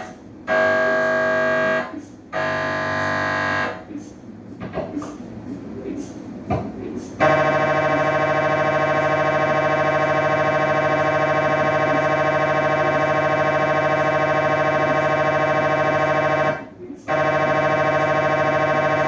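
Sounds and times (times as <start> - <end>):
mri scanner buzzing: 0.0 - 3.9, 7.2 - 19.0.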